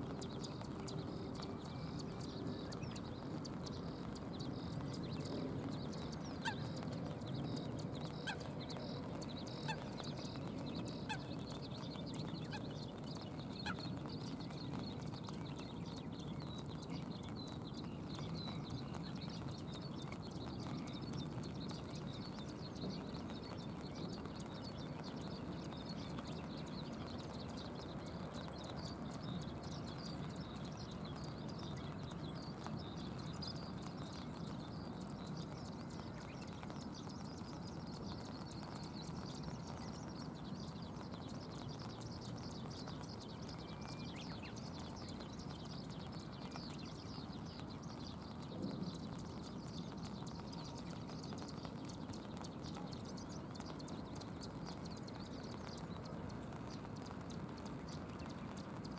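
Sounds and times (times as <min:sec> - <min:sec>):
raindrops pattering: 0:00.0 - 0:58.9.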